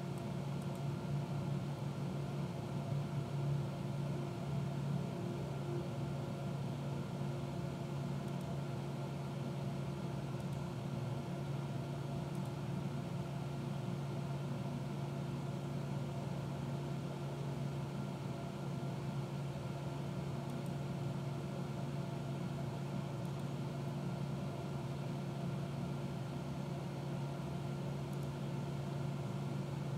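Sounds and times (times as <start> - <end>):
low machine hum: 0.0 - 29.9.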